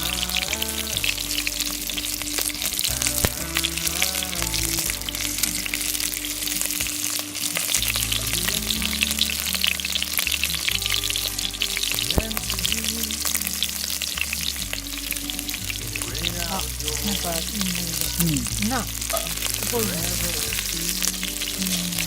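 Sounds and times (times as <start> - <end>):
background music: 0.0 - 22.0
meat sizzling in a pan: 0.0 - 22.0.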